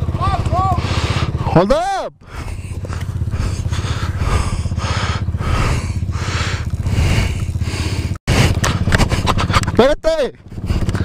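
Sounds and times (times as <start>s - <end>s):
atv engine idling: 0.0s - 11.0s.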